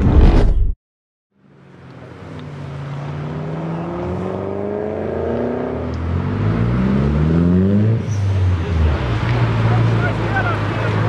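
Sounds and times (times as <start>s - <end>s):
car engine accelerating: 1.5s - 11.0s.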